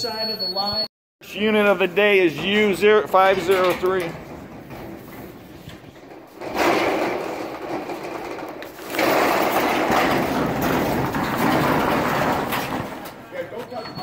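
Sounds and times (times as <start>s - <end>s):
metal roll-up door rattling: 1.6s - 14.0s.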